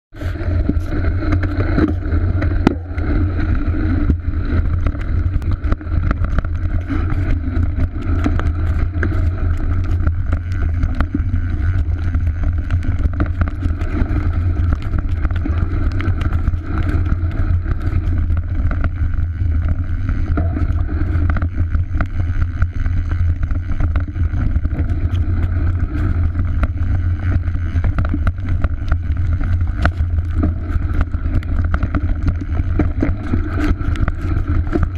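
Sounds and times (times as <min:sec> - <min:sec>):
wind and ground rumble: 0:00.1 - 0:34.9
bike rattling and clicking: 0:00.2 - 0:34.9.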